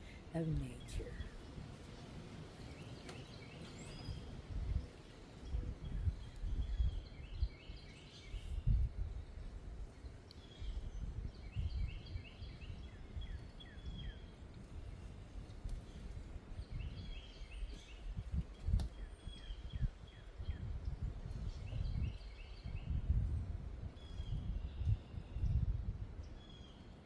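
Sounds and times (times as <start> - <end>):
songbird singing: 0.0 - 23.2
wind gusting on microphone: 0.0 - 26.7.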